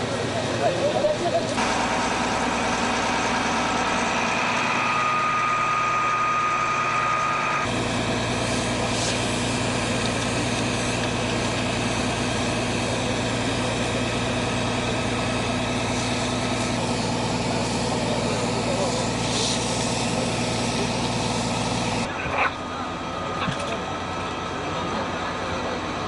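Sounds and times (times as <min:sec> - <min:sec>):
engine idling: 0:00.0 - 0:26.0
thin whine: 0:00.0 - 0:26.0.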